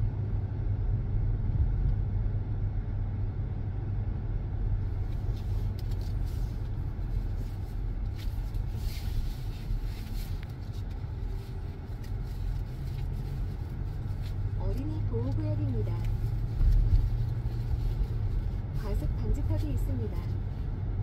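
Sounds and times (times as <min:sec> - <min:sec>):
car road rumble: 0:00.0 - 0:21.0.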